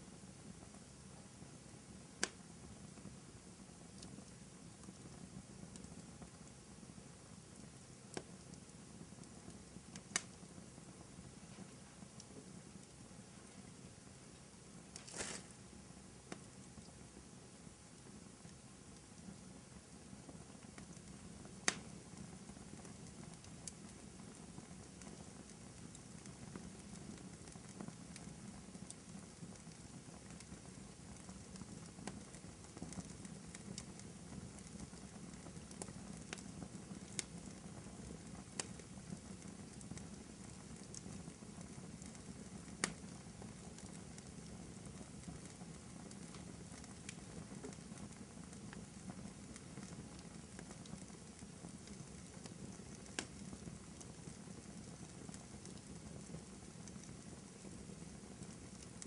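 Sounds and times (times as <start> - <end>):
fireplace crackling: 0.0 - 59.0
wood fire popping: 0.0 - 59.0.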